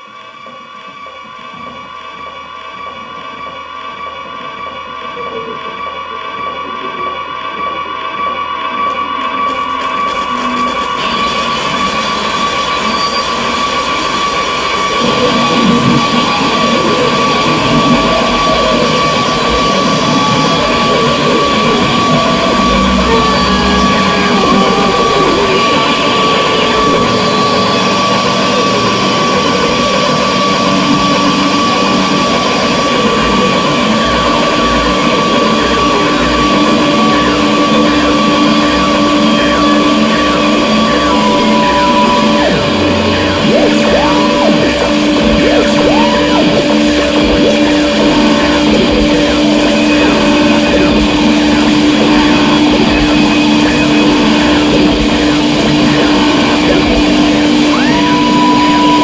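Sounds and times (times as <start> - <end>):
electric guitar noise music: 0.0 - 59.0
steady high held tone: 0.0 - 59.0
wavering glides: 9.5 - 59.0.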